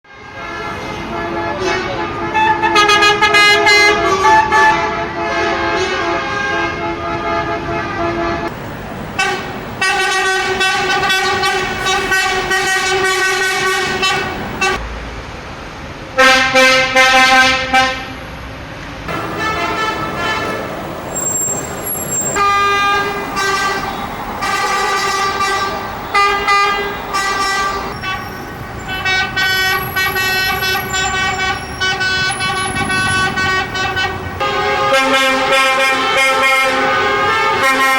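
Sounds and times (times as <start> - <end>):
coach horns honking: 0.0 - 8.6, 9.2 - 14.8, 16.2 - 18.2, 19.1 - 37.9
loud low horn: 0.0 - 8.6, 9.2 - 14.8, 16.2 - 18.2, 19.1 - 37.9.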